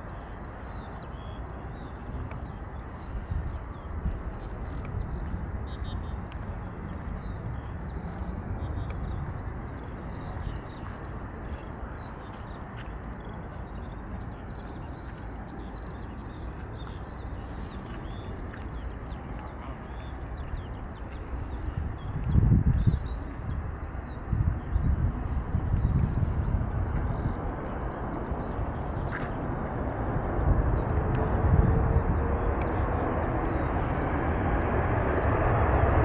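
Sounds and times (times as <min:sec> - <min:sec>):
small birds chirping and singing: 0:00.0 - 0:34.6
low outdoor rumble: 0:00.0 - 0:36.0.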